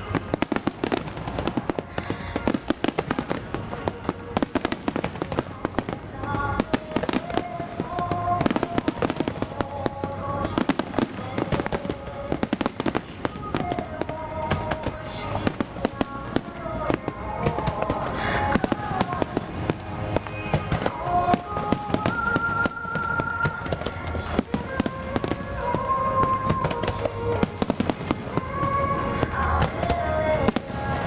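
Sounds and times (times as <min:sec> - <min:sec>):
fireworks bangs and crackles: 0:00.0 - 0:31.0
song with singer: 0:00.0 - 0:31.0.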